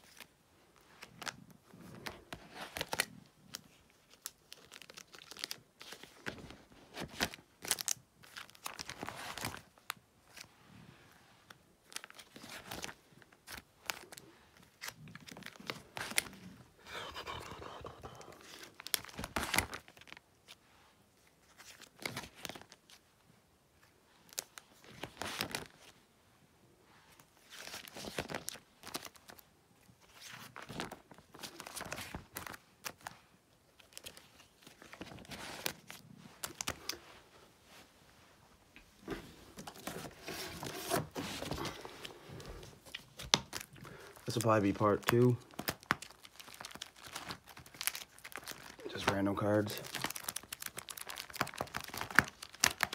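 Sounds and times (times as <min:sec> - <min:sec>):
plastic sleeves crinkling: 0:00.0 - 0:10.5, 0:11.4 - 0:16.8, 0:17.4 - 0:20.6, 0:21.2 - 0:23.1, 0:23.8 - 0:26.0, 0:27.1 - 0:37.8, 0:38.8 - 0:52.9.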